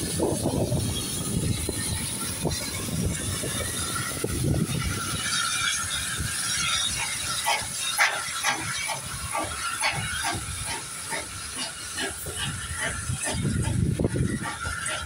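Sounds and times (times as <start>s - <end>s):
steam hissing: 0.0s - 15.0s
steam locomotive chuffing: 0.0s - 15.0s.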